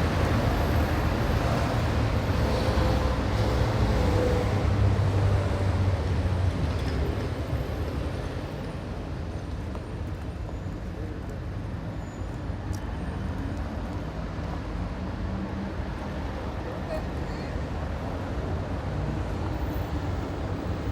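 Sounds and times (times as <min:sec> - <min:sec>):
traffic noise: 0:00.0 - 0:20.9.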